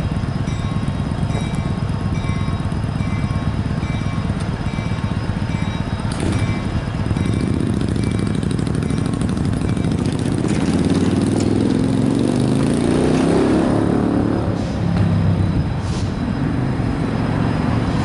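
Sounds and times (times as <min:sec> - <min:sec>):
vehicles driving over railroad crossing: 0:00.0 - 0:18.0.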